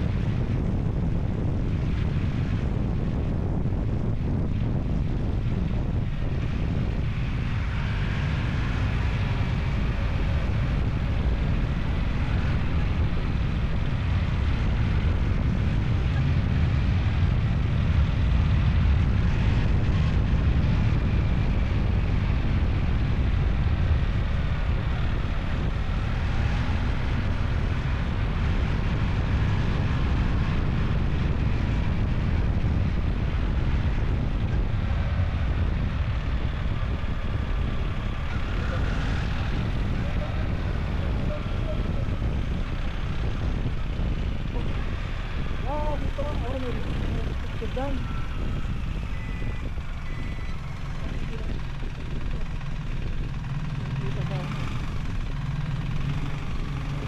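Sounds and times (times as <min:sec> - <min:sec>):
vehicle engine drone: 0:00.0 - 0:57.0
wind rumble on microphone: 0:00.0 - 0:57.0.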